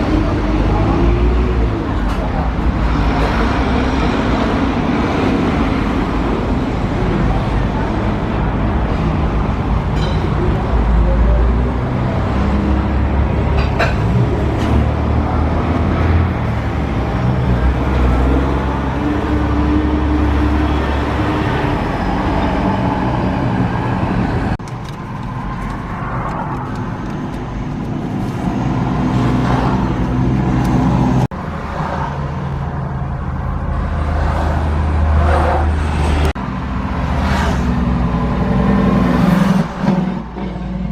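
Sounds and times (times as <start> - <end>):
truck engines running: 0.0 - 40.9.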